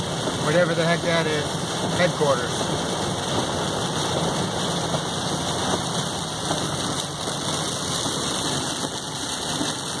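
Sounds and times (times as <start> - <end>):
rain on car windshield and roof: 0.0 - 10.0
tyres hissing on wet road: 0.0 - 10.0.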